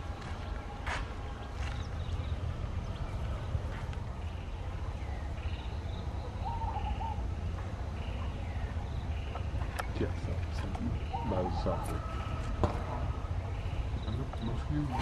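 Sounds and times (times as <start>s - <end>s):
steady low rumble: 0.0s - 15.0s
faint bird chirps: 1.3s - 15.0s.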